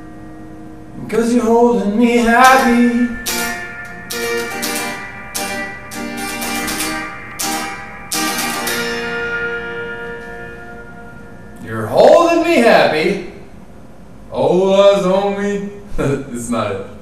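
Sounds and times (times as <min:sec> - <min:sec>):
electric guitar strumming: 0:00.0 - 0:14.2.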